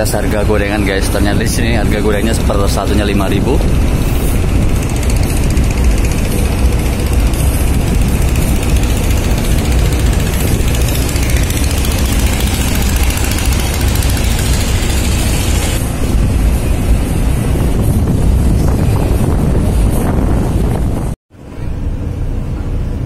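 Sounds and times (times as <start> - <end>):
ship engines rumbling: 0.0 - 23.0.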